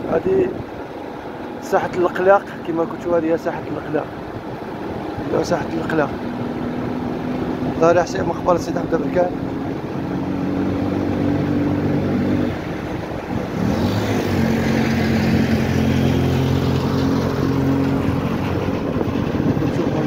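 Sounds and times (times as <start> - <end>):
road and wind noise: 0.0 - 20.0
vehicle engine running: 3.9 - 20.0.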